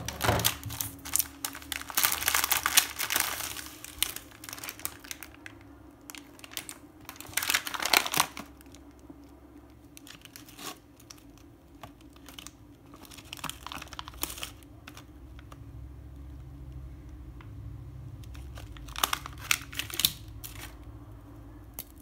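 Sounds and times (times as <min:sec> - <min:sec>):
plastic wrapper crinkling: 0:00.0 - 0:16.8, 0:18.1 - 0:22.0.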